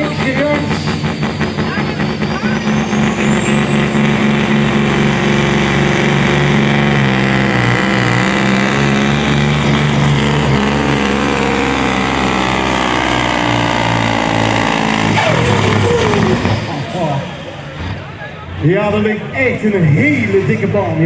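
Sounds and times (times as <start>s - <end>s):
truck engine running flat out: 0.0s - 18.6s.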